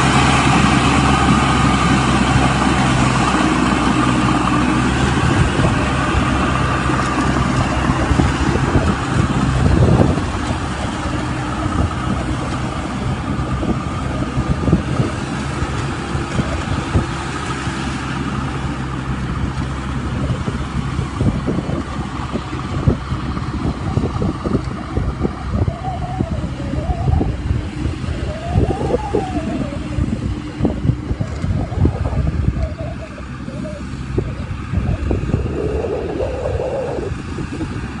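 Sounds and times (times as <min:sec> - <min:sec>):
combine harvester engine drone: 0:00.0 - 0:38.0.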